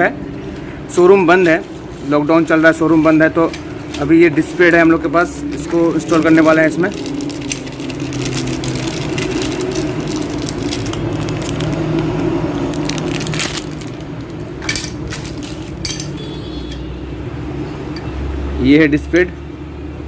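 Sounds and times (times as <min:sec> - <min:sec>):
crackling handling noises: 0:00.4 - 0:16.8.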